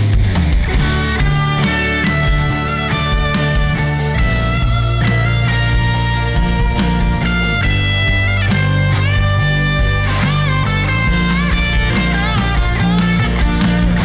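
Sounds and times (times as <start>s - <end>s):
bass guitar: 0.0s - 14.0s
rock band playing: 0.0s - 14.0s.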